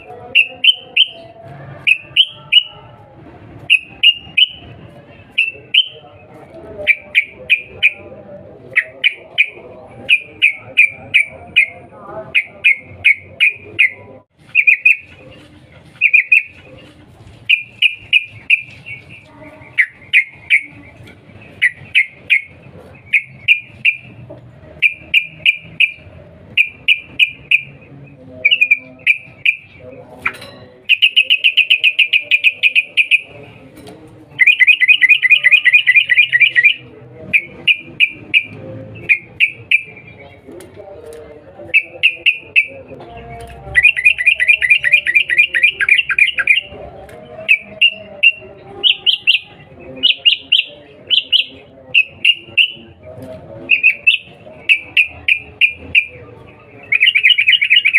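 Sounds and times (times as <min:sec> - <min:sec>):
bird chattering: 0:00.0 - 0:02.8, 0:03.7 - 0:06.0, 0:06.8 - 0:33.6, 0:34.4 - 0:40.6, 0:41.6 - 0:42.9, 0:43.8 - 0:46.8, 0:47.4 - 0:53.0, 0:53.7 - 0:57.9
bird calling sharp notes: 0:00.0 - 0:03.0, 0:03.6 - 0:33.6, 0:34.4 - 0:40.6, 0:41.6 - 0:46.8, 0:47.4 - 0:53.0, 0:53.6 - 0:57.9.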